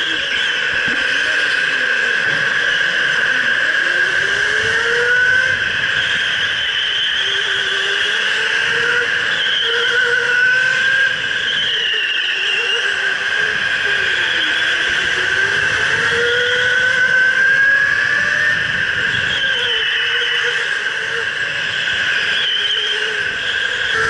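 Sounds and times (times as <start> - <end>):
electric go-kart motor whine: 0.0 - 24.0.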